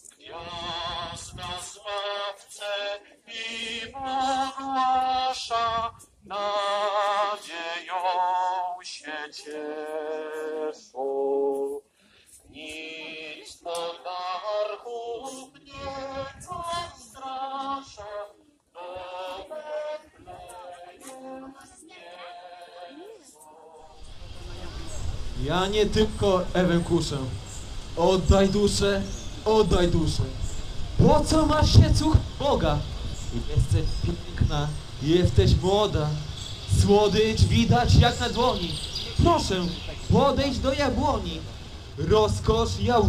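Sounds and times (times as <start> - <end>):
people singing with vibrato: 0.0 - 43.0.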